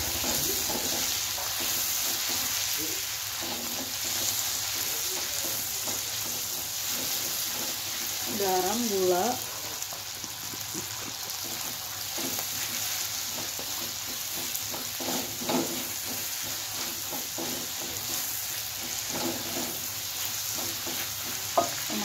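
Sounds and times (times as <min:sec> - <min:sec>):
spatula scraping a wok: 0:00.0 - 0:22.0
vegetables sizzling in a wok: 0:00.0 - 0:22.0.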